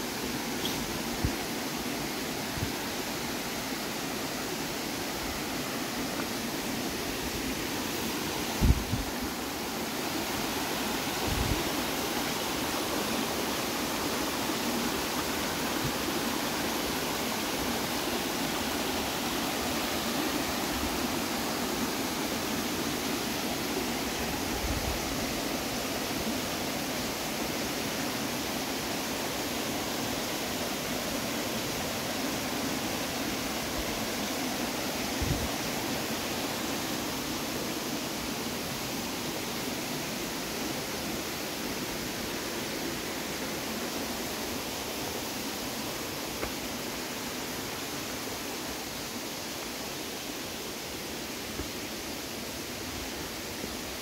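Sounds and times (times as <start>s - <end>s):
creek water rushing over rocks: 0.0s - 54.0s.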